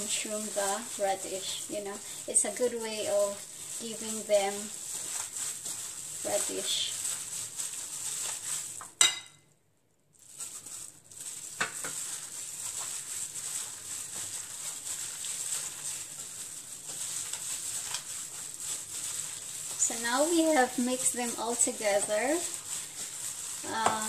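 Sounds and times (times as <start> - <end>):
hand squishing wet mixture: 0.0 - 9.0, 10.3 - 24.0
plastic glove rustling: 0.0 - 9.1, 10.1 - 24.0.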